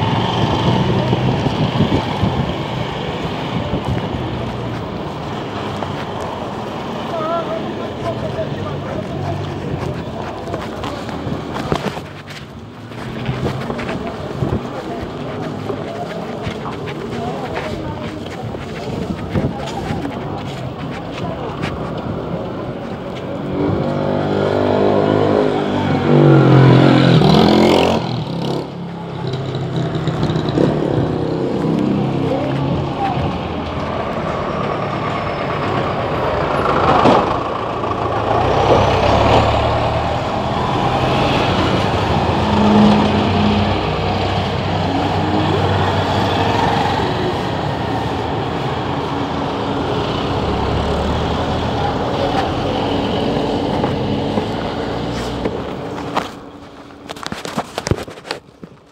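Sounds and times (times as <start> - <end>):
vehicle engine speeding up: 0.0 - 35.7, 36.3 - 57.2
road noise: 0.0 - 58.9.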